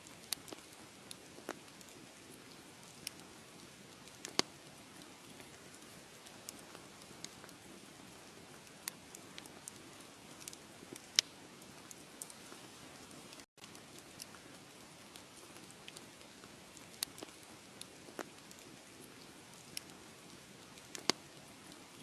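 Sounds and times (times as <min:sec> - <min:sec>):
wood fire crackling: 0:00.1 - 0:22.0.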